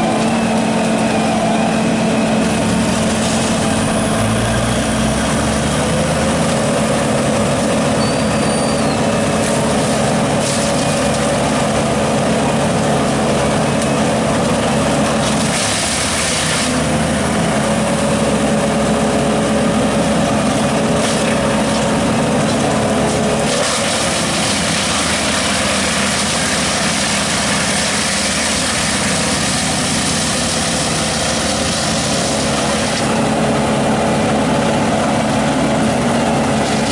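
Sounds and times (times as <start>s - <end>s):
machinery engine running: 0.0s - 36.9s.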